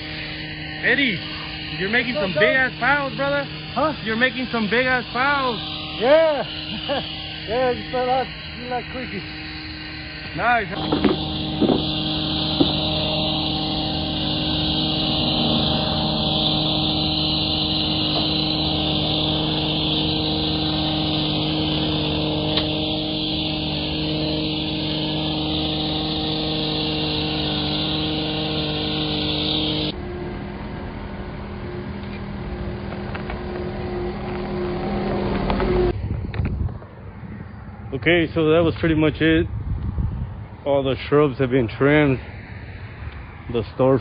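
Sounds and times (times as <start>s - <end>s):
small gas engine running: 0.0s - 36.0s.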